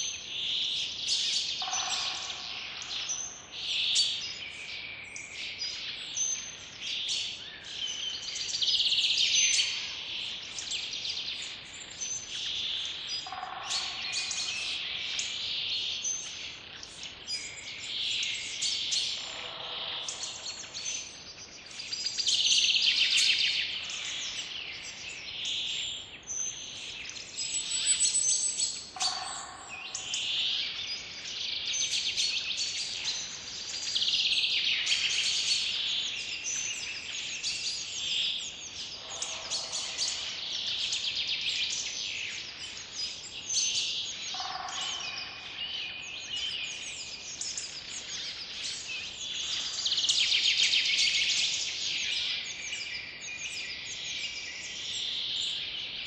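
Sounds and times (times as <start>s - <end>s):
birds chirping and singing: 0.0s - 56.0s.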